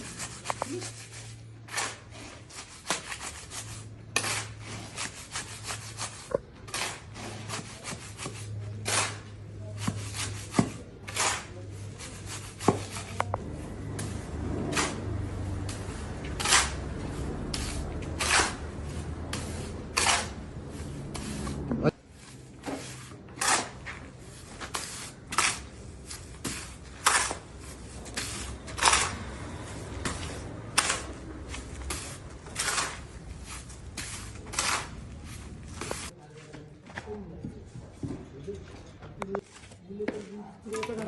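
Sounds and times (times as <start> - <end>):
hand tool scraping rough surface: 0.0 - 36.2.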